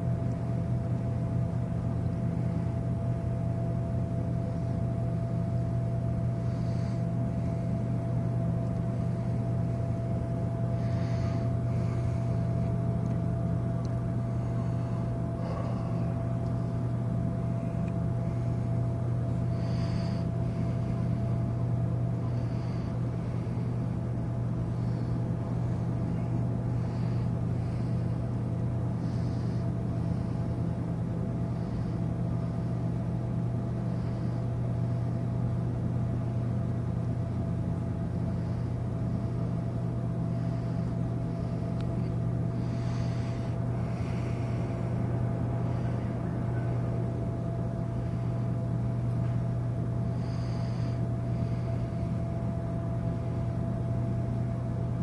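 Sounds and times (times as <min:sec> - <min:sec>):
ship machinery drone: 0:00.0 - 0:55.0
thin constant whine: 0:00.0 - 0:55.0.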